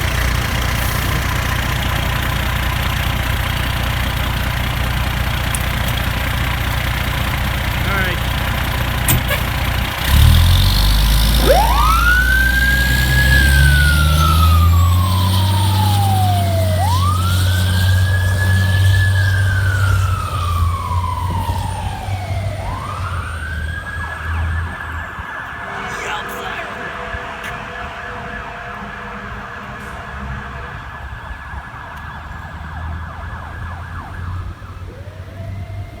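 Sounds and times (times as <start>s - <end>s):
diesel engine rumble: 0.0s - 36.0s
fire truck siren: 0.0s - 36.0s.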